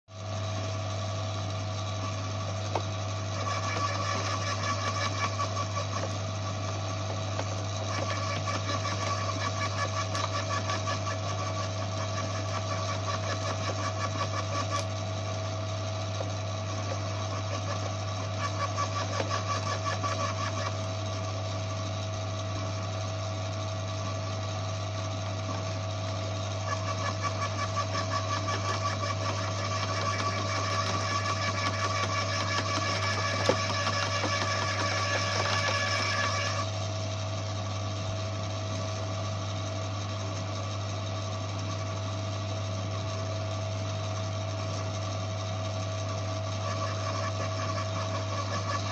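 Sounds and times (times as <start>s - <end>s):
garden shredder motor hum: 0.1s - 48.9s.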